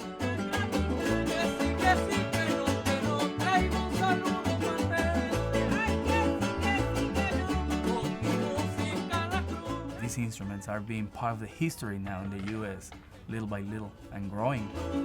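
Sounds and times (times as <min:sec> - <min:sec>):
plucked bass notes: 0:00.0 - 0:15.0
strummed guitars: 0:00.0 - 0:15.0.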